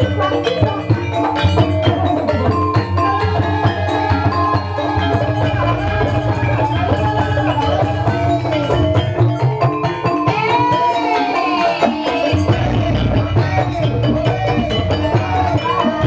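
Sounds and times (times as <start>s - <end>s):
drums: 0.0s - 16.0s
ringing metallophones: 0.0s - 16.0s.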